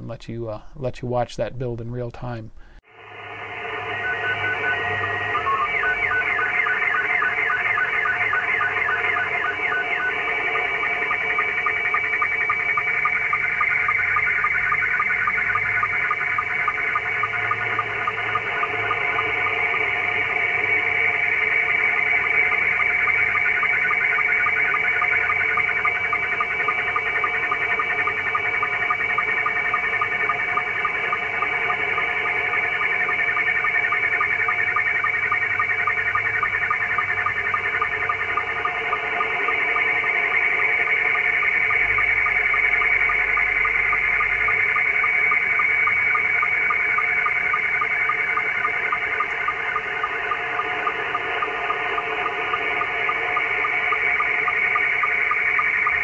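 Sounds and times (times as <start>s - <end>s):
warbling radio screech: 2.9s - 56.0s
fast regular ticking: 3.2s - 56.0s.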